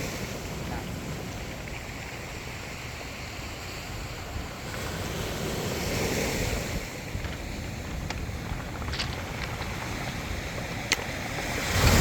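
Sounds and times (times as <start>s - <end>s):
waves on pebble beach: 0.0s - 12.0s
wind buffeting microphone: 0.0s - 12.0s.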